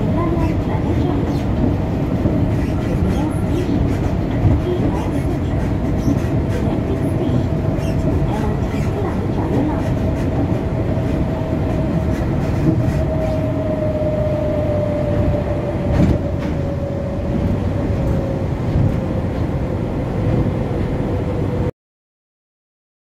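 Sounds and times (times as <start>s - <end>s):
monorail running rumble and whine: 0.0s - 21.7s.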